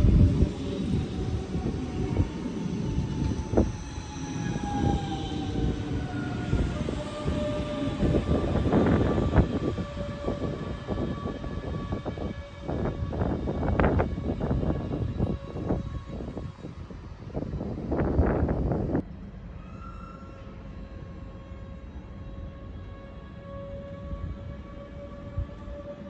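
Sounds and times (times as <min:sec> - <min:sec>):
electric train rumble: 0:00.0 - 0:26.0.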